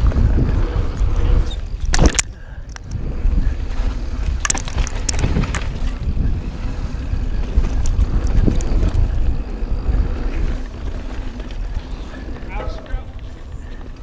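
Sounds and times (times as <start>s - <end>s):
bike clicking and rattling: 0.0s - 14.0s
wind rushing over microphone: 0.0s - 14.0s.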